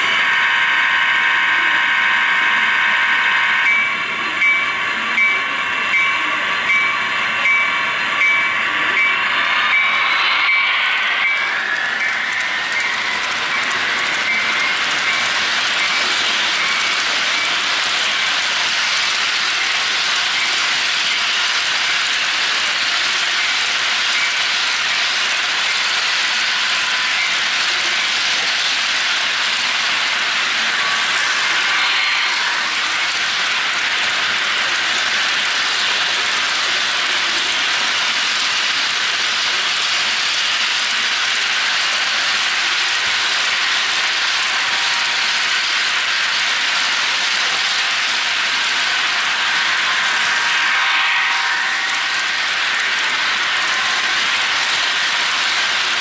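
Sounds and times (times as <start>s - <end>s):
model train wheels clattering: 4.4s - 56.0s.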